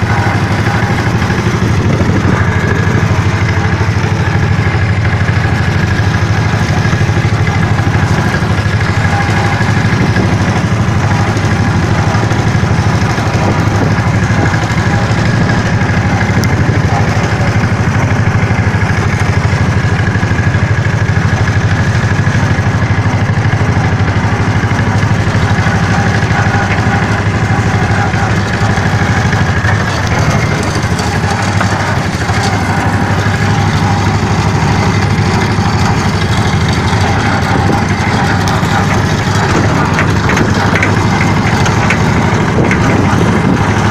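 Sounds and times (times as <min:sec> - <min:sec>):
vehicle engine running loudly: 0:00.0 - 0:43.9.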